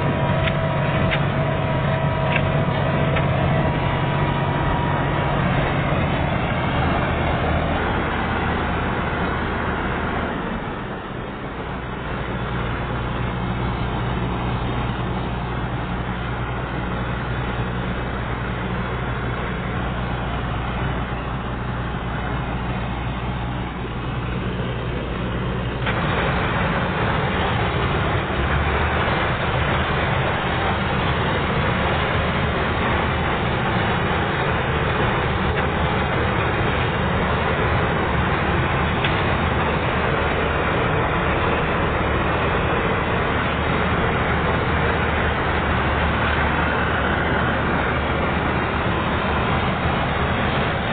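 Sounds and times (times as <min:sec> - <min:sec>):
combine harvester engine running: 0:00.0 - 0:50.9.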